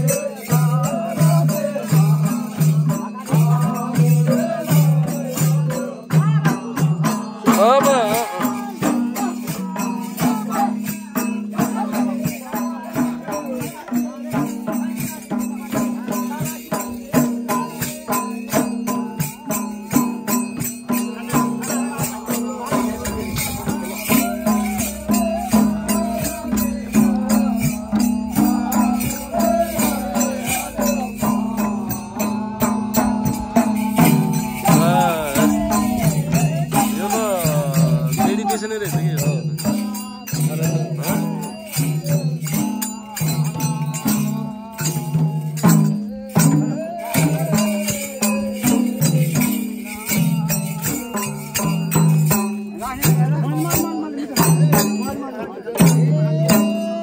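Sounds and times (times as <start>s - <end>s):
hand drums beating: 0.0s - 57.0s
voices singing: 0.0s - 57.0s.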